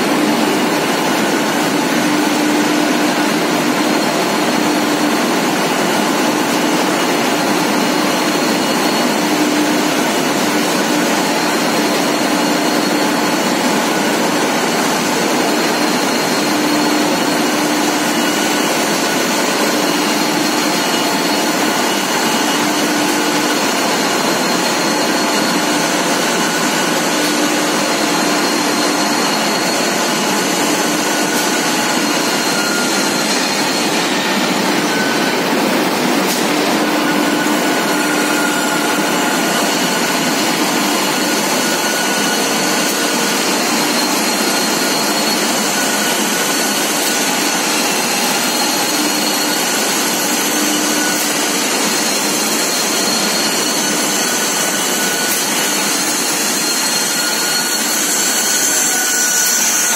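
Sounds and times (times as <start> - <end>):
loud machinery noise: 0.0 - 59.9
machinery hum: 0.0 - 59.9.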